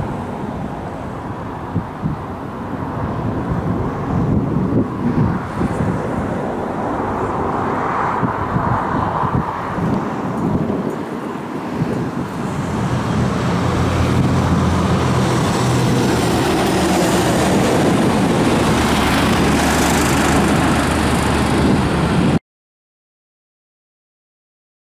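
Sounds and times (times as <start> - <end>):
jet airliner taking off: 0.0 - 22.4.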